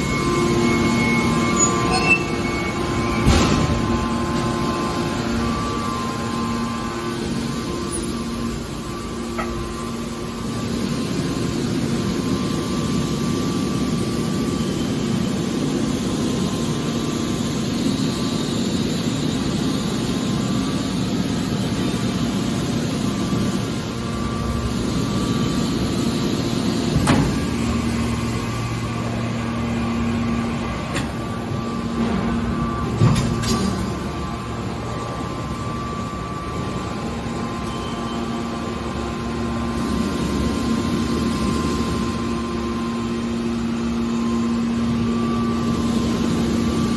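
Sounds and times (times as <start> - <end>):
baler machine humming: 0.0 - 46.9.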